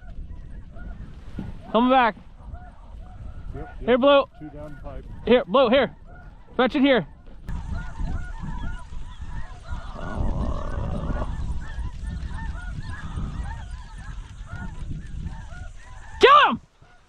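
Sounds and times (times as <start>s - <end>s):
geese honking: 0.0s - 17.0s
wind rumble on microphone: 0.0s - 17.0s.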